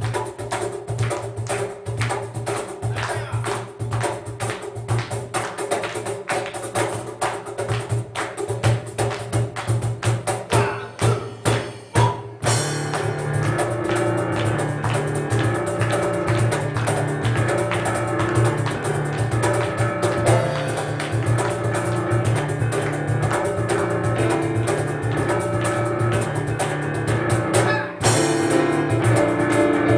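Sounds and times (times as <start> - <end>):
cajon strikes: 0.0 - 29.9
piano: 0.0 - 29.9.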